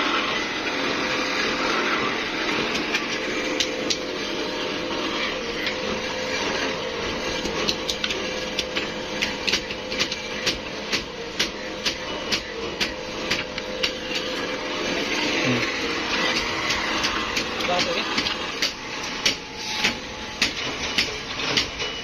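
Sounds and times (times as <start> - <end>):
workshop machinery running: 0.0 - 22.0.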